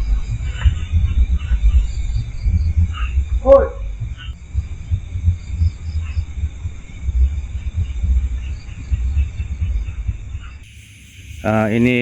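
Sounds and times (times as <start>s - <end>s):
low irregular rumble: 0.0s - 10.7s
insects chirping: 0.0s - 12.0s.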